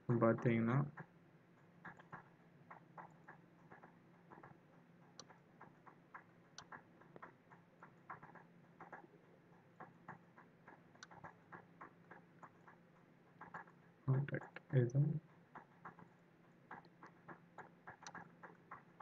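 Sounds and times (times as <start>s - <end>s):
low steady hum: 0.0s - 19.0s
computer mouse clicking: 0.3s - 19.0s.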